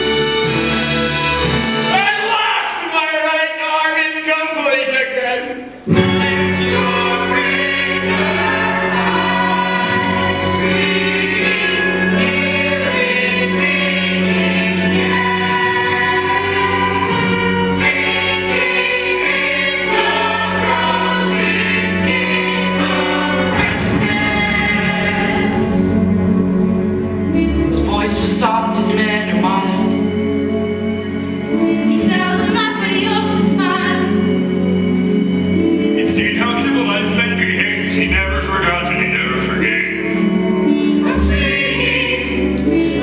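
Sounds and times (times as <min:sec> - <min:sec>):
chorus singing in harmony: 0:05.8 - 0:43.0.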